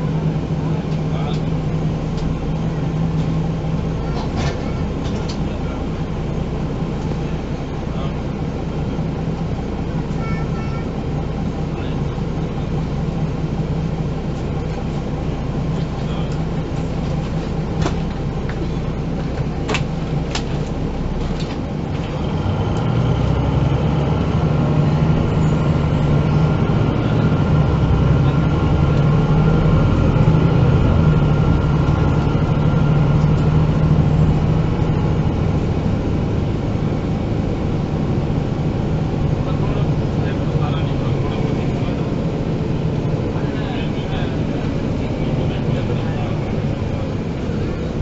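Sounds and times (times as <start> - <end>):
bus diesel engine hum: 0.0 - 48.0.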